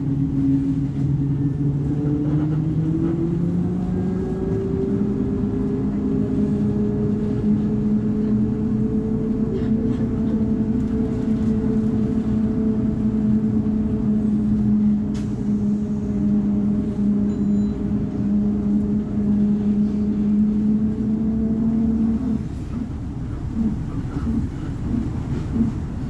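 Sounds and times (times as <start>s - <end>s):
diesel bus engine running: 0.0s - 26.0s.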